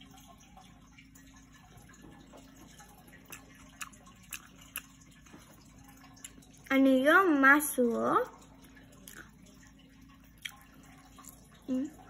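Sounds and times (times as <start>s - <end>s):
low steady hum: 0.0s - 12.0s
child chewing food: 0.6s - 6.7s, 8.4s - 12.0s.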